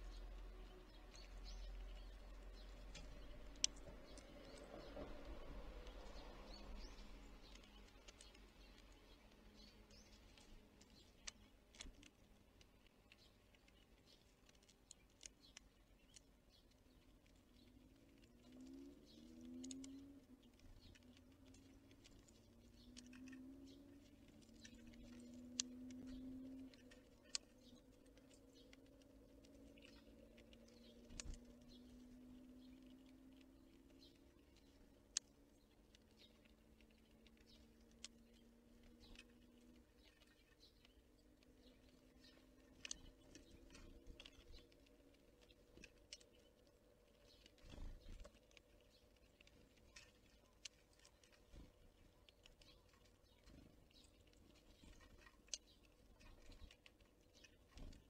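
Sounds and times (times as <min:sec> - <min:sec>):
sharp ticks and taps at feeder: 0:00.0 - 0:58.0.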